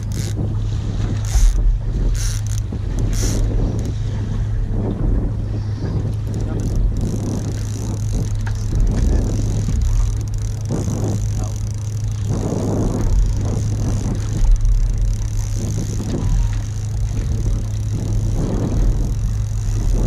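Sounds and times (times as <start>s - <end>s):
outboard motor idling: 0.0s - 20.0s
wind gusting on microphone: 0.0s - 20.0s.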